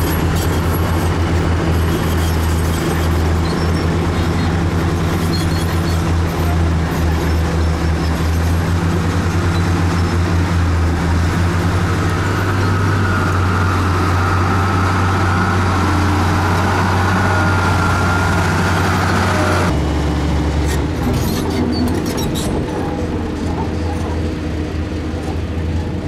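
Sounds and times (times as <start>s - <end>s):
heavy diesel machinery engines: 0.0s - 26.0s.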